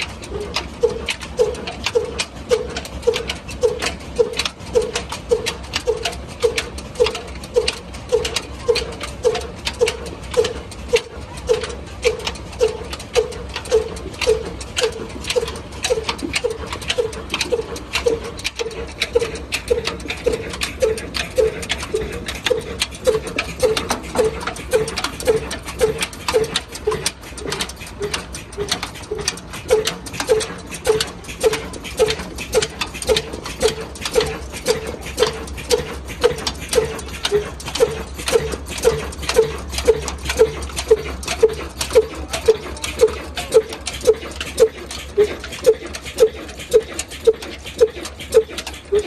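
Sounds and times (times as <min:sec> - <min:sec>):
diesel engine exhaust thuds: 0:00.0 - 0:49.0
engine clattering knocks: 0:00.0 - 0:49.0.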